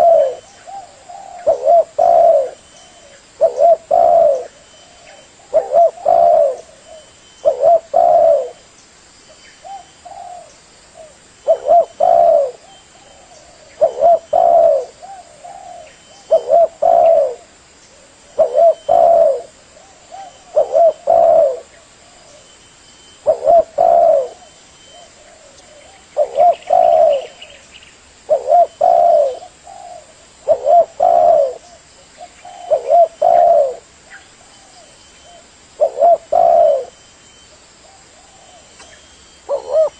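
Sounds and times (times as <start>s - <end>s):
dove cooing: 0.0s - 8.6s, 9.6s - 22.5s, 23.2s - 27.6s, 28.3s - 39.9s.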